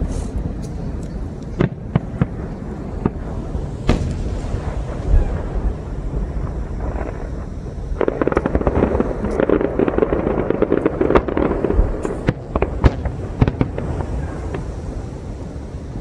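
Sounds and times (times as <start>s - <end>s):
fireworks crackling: 0.0s - 16.0s
fireworks shells bursting: 1.5s - 14.8s.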